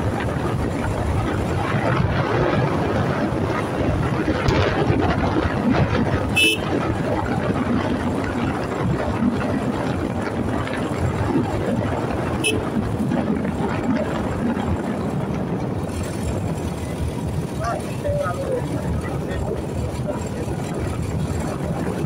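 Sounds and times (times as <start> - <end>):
vehicle noise: 0.0 - 22.0.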